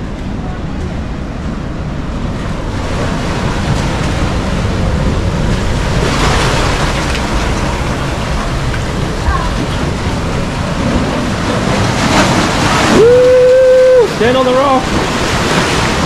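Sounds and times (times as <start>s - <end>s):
ocean surf washing over sand: 0.0s - 16.0s.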